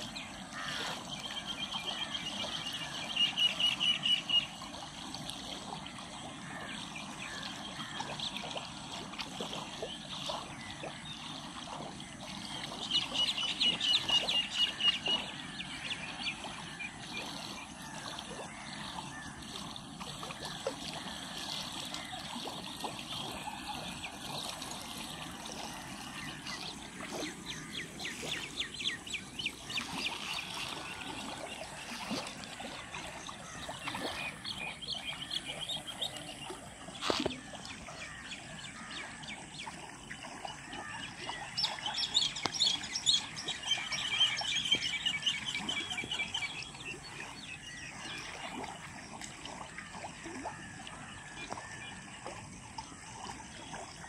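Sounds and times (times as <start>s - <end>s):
water flowing in a canal: 0.0s - 54.0s.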